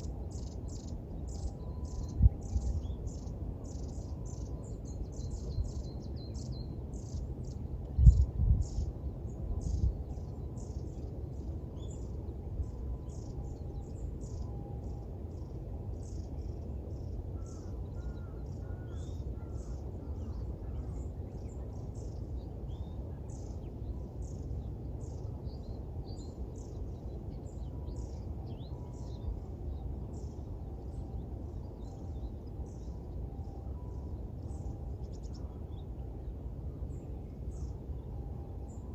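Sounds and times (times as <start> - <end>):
small birds chirping: 0.0 - 38.8
low background rumble: 0.0 - 38.9.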